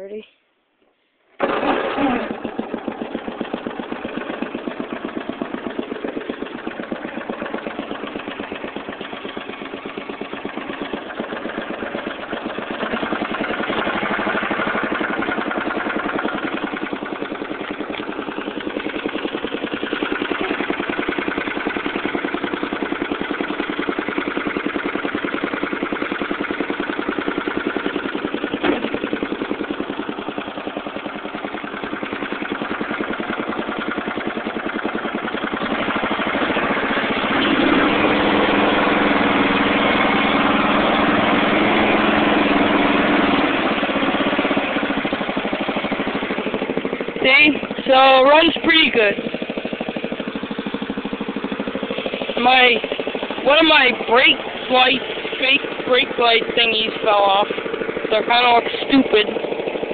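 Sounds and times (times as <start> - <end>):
riding mower engine running: 1.3 - 59.9.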